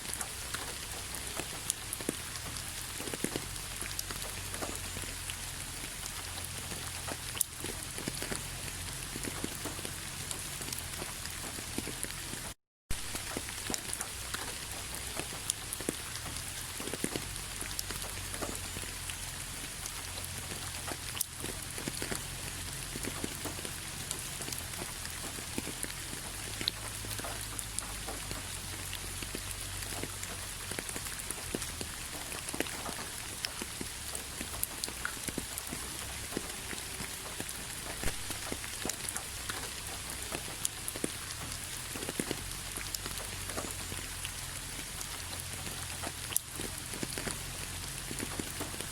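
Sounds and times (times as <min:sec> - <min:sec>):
steady rain: 0:00.0 - 0:48.9
raindrop taps: 0:00.1 - 0:48.9.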